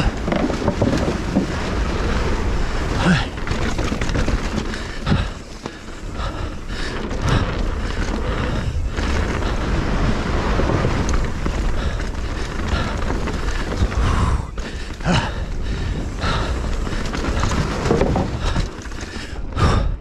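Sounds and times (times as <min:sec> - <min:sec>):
bike thumping over bumps: 0:00.0 - 0:19.4
bike tyre and frame noise: 0:00.0 - 0:20.0.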